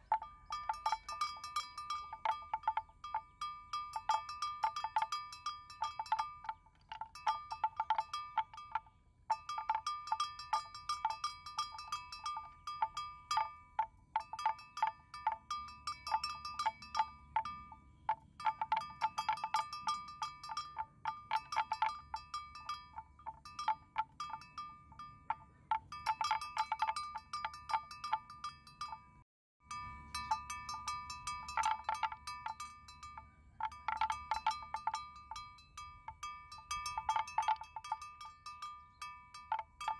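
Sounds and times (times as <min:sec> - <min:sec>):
animal bells clanking: 0:00.0 - 0:39.9.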